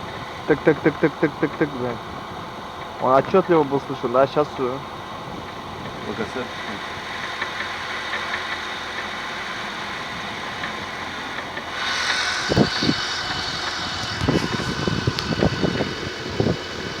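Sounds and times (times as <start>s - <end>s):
car engine idling with ticking: 0.0s - 17.0s
loud hiss: 0.0s - 17.0s.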